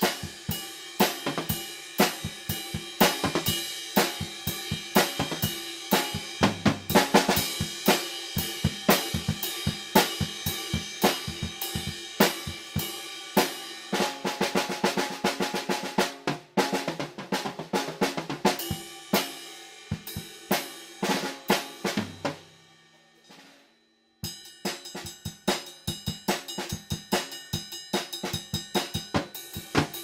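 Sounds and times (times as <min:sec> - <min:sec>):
acoustic drum kit playing: 0:00.0 - 0:22.6, 0:24.2 - 0:30.0.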